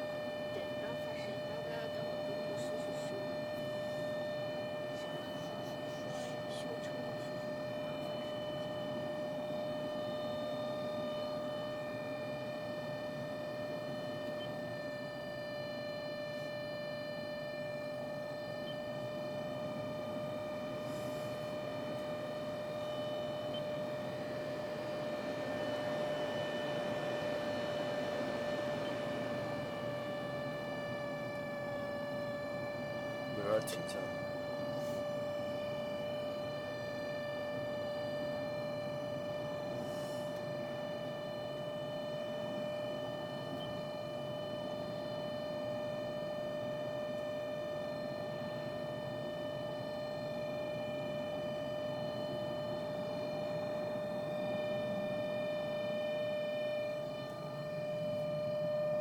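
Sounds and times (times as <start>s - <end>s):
blower fan whining: 0.0s - 59.0s.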